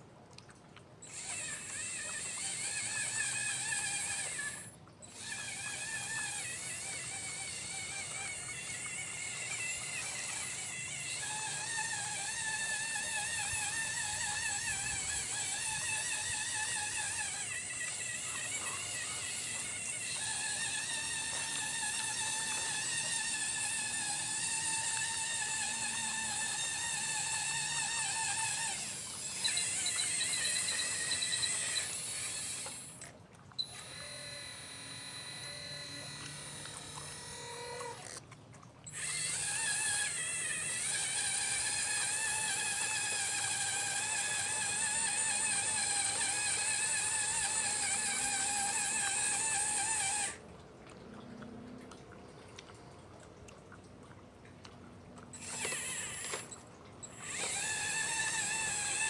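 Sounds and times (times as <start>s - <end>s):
hydraulic pump motor whining: 1.0s - 50.4s, 55.3s - 59.0s.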